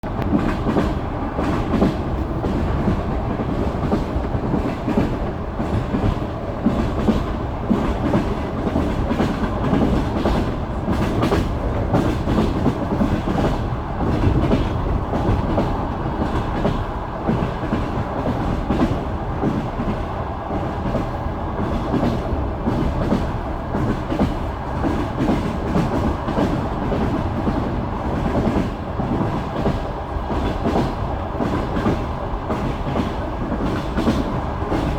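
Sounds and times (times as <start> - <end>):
train running rumble: 0.0 - 34.9
train wheels clickety-clack: 0.0 - 34.9.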